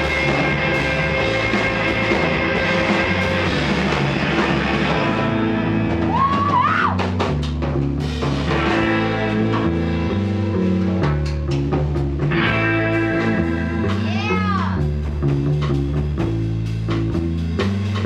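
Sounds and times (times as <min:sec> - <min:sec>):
electric guitar bending notes: 0:00.0 - 0:15.8
bass guitar: 0:00.0 - 0:18.0
drum kit: 0:00.0 - 0:18.0.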